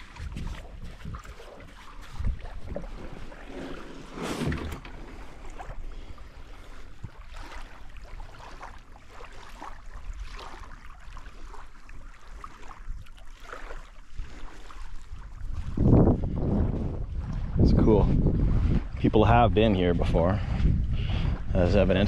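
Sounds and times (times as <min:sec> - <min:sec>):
waves lapping on shore: 0:00.0 - 0:20.6
wind rumbling on microphone: 0:00.0 - 0:22.0.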